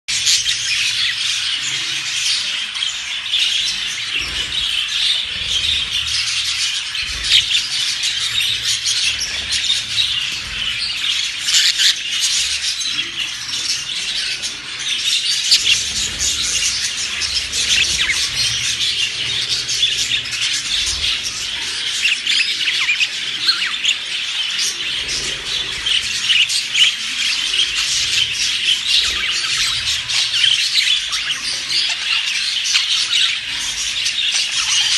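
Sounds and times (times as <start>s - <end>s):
small birds chirping and squawking: 0.1s - 34.9s.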